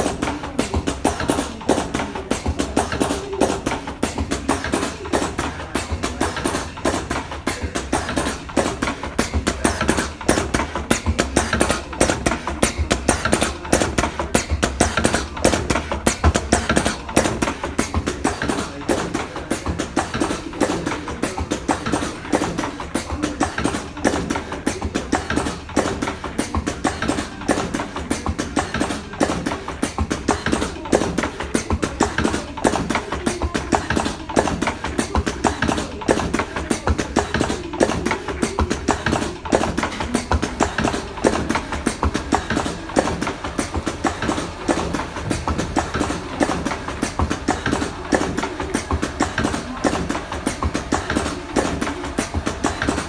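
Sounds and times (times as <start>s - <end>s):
cigarette rolling machine clacking: 0.0s - 53.0s.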